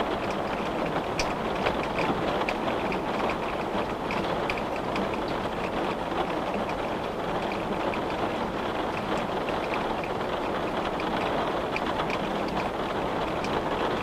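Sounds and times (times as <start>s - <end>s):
raindrops tapping on glass: 0.0s - 14.0s.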